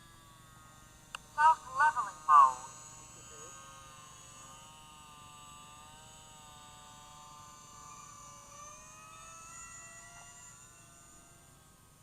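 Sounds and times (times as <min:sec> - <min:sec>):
rc plane propeller buzzing: 0:00.0 - 0:12.0.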